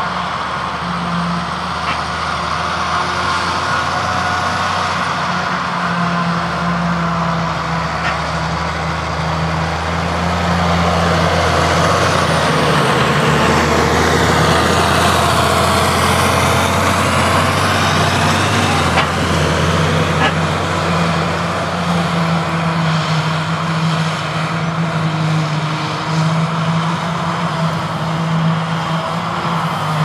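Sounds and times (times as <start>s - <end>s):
loud engine drone: 0.0s - 30.0s.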